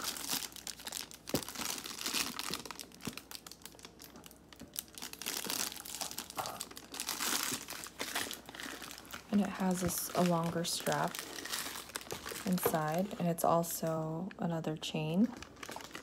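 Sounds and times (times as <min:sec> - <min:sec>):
plastic wrapping crinkling: 0:00.0 - 0:13.7, 0:15.0 - 0:16.0.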